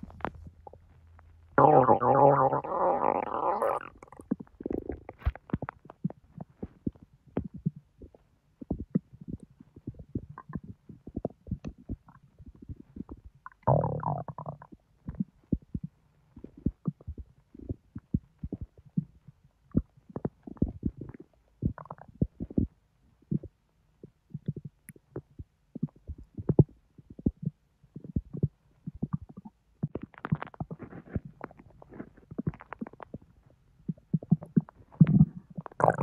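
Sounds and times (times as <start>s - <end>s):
stomach gurgles and pops: 0.0s - 36.0s.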